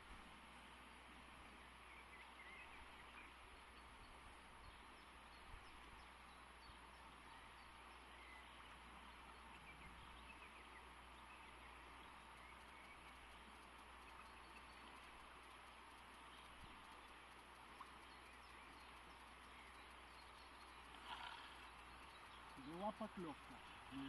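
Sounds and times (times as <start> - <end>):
faint bird chirps: 0.9 - 24.0.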